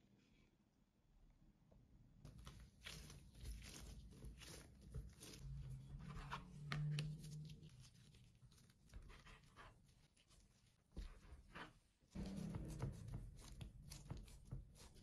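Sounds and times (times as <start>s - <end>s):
hands squishing bread dough: 2.2s - 15.0s.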